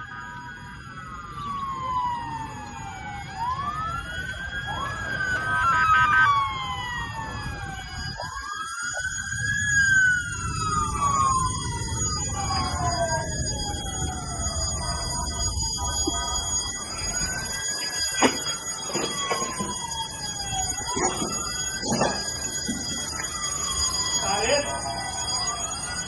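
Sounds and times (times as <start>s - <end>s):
emergency vehicle sirens wailing: 0.0s - 26.0s.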